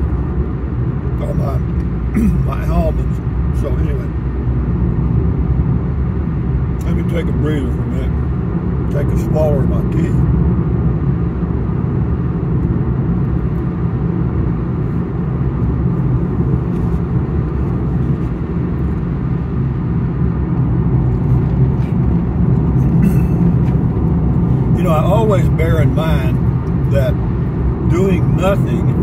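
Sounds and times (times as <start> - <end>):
road and tyre noise in car: 0.0 - 29.0.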